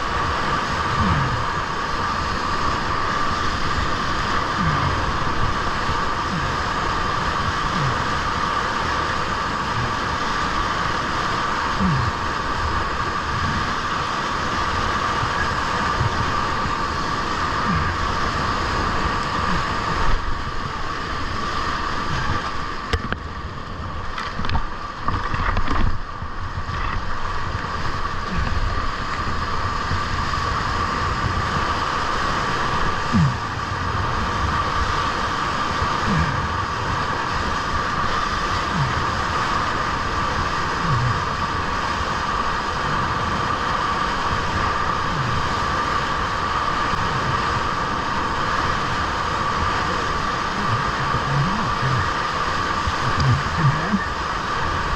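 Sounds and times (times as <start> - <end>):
whitewater rushing around kayak: 0.0 - 54.9.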